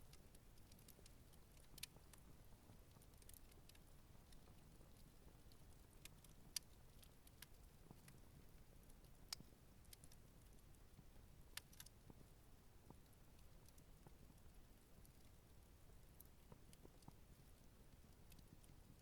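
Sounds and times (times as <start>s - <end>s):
campfire crackling and snapping: 0.0s - 19.0s.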